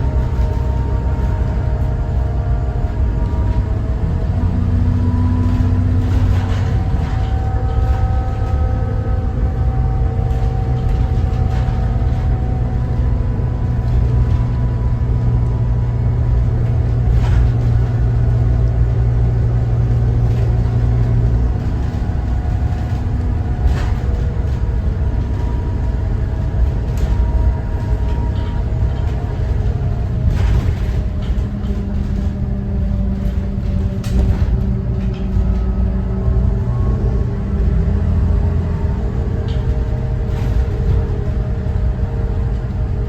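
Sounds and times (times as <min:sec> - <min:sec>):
rattles and knocks: 0:00.0 - 0:36.2, 0:37.6 - 0:42.9
bus diesel engine droning: 0:00.0 - 0:43.0.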